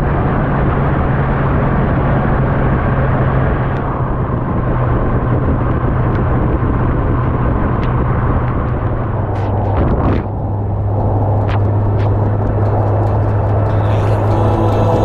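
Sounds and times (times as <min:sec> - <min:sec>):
motorcycle engine drone: 0:00.0 - 0:15.0
wind rush: 0:00.0 - 0:15.0.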